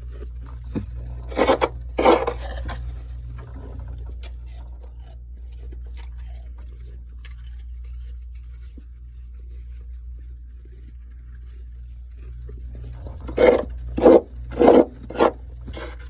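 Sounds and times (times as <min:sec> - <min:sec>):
frost crunching in mouth: 0:00.0 - 0:13.8
steady low hum: 0:00.0 - 0:16.0.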